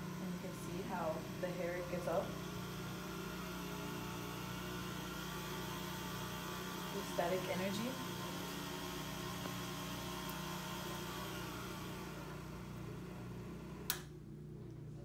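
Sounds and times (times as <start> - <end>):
generator motor and belt whirring: 0.0 - 15.0.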